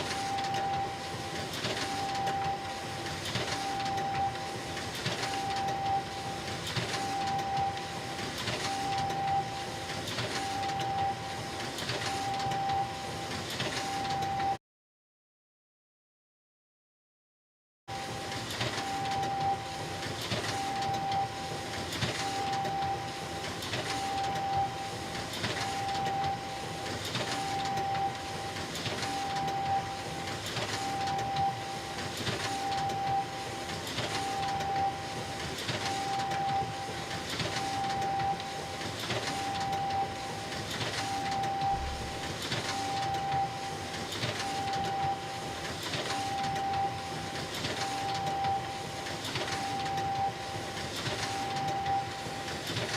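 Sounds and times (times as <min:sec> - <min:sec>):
copy machine running: 0:00.0 - 0:14.6, 0:17.9 - 0:52.9.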